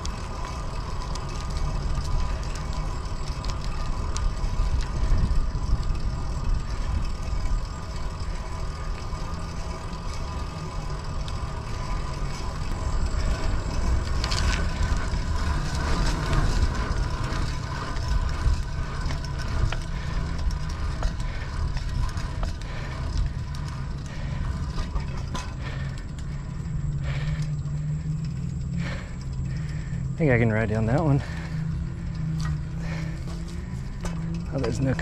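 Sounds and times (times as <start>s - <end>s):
bicycle tyre road noise: 0.0s - 35.0s
wind buffeting microphone: 0.0s - 35.0s.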